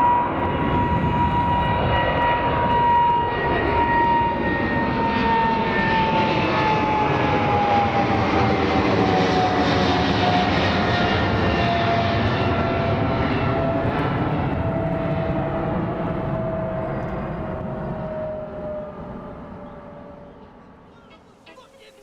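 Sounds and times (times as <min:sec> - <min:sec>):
jet engines roaring past: 0:00.0 - 0:22.0.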